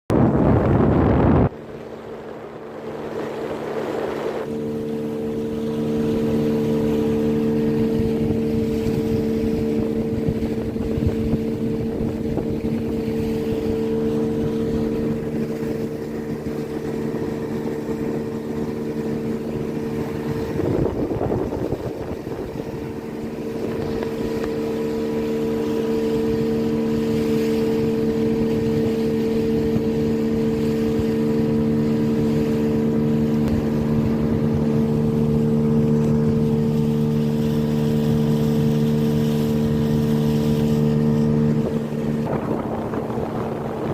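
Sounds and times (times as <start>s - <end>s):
motorboat engine running: 0.1s - 43.9s.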